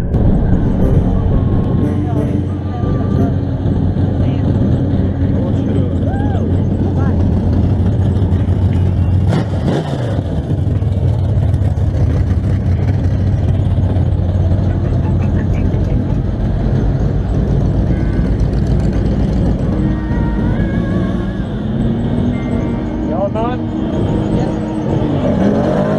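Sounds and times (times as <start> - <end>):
off-road vehicle engines running: 0.0 - 25.9.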